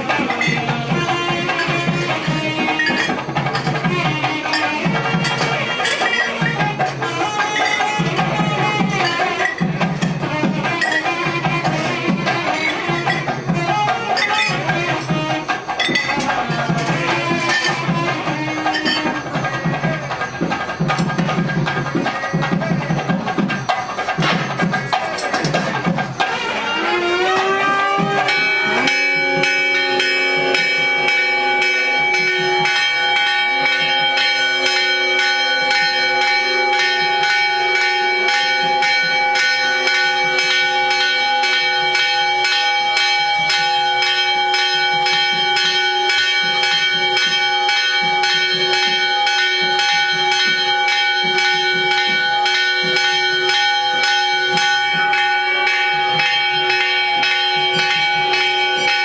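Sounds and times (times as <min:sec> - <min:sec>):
temple bells ringing: 0:00.0 - 0:59.0.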